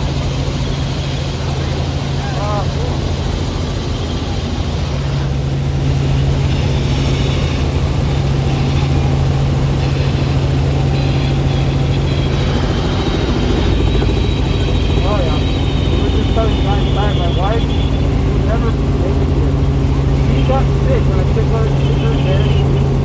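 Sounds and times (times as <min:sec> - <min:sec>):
faint high whine: 0:00.0 - 0:23.0
helicopter rotor and engine drone: 0:00.0 - 0:23.0.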